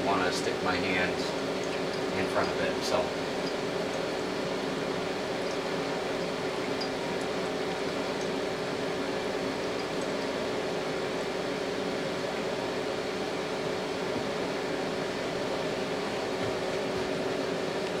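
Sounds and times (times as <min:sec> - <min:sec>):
generator whirring hum: 0:00.0 - 0:18.0.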